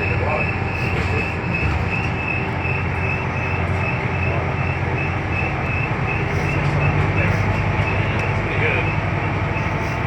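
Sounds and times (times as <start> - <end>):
bus diesel engine hum: 0.0 - 10.0
road noise: 0.0 - 10.0.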